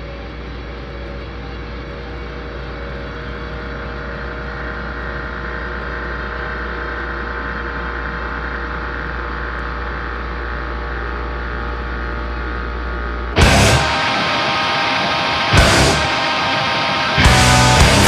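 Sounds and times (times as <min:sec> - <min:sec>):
deep droning hum: 0:00.0 - 0:18.0.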